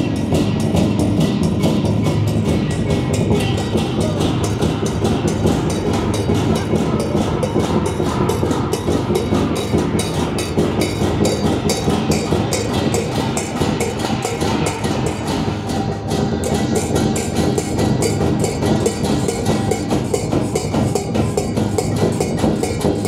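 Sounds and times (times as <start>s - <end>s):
barrel drums beaten fast: 0.0s - 23.0s
hand cymbals clashing: 0.0s - 23.0s.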